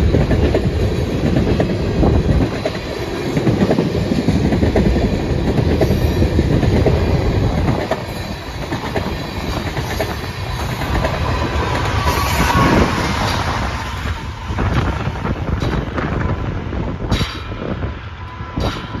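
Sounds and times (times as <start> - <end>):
freight train rolling past: 0.0 - 19.0.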